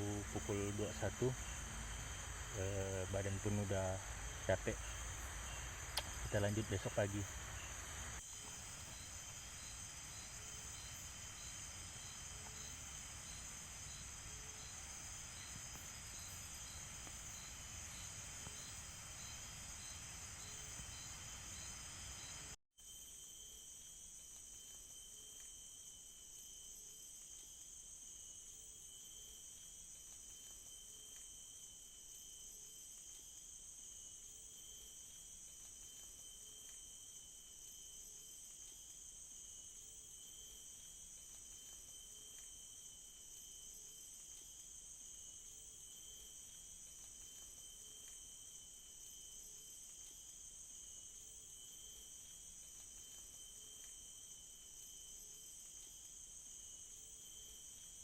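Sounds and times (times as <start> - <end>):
crickets shrilling: 0.0 - 58.0
insect chirping: 0.0 - 58.0.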